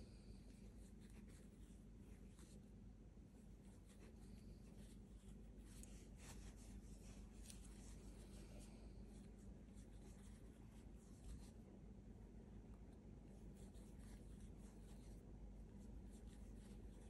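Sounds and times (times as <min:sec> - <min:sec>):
low steady hum: 0:00.0 - 0:17.0
crochet hook scratching yarn: 0:00.5 - 0:02.7, 0:03.4 - 0:11.6, 0:13.4 - 0:17.0.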